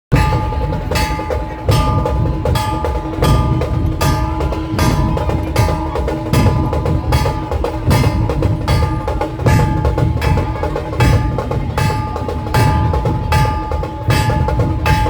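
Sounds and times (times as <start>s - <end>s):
deep drum beats: 0.1s - 15.0s
metallic ringing: 0.1s - 15.0s.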